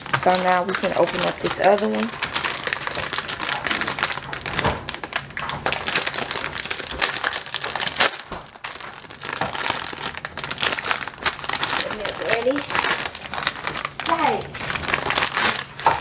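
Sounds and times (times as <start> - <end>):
plastic wrapper crinkling: 0.0 - 16.0
sharp plastic crackle: 0.0 - 16.0.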